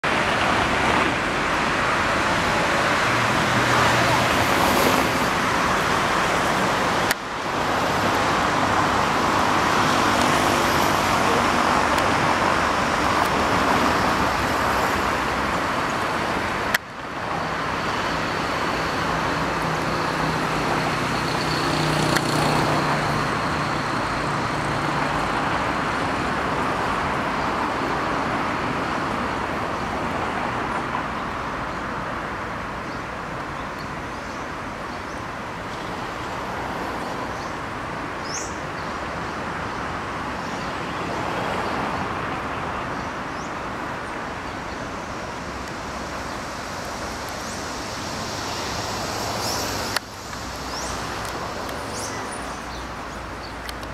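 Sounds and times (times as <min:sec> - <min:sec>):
road traffic: 0:00.0 - 0:53.9.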